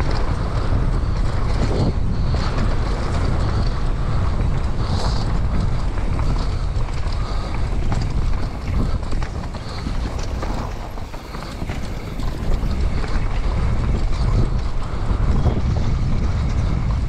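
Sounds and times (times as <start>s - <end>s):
bike knocks and rattles: 0.0s - 17.0s
tyres rumbling over dirt: 0.0s - 17.0s
wind noise on microphone: 0.0s - 17.0s.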